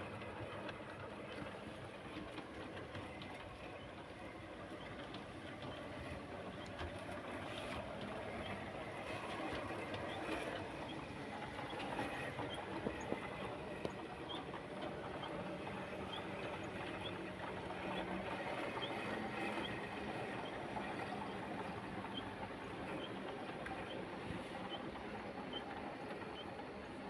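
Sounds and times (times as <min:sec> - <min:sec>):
model train rumbling on track: 0:00.0 - 0:27.0.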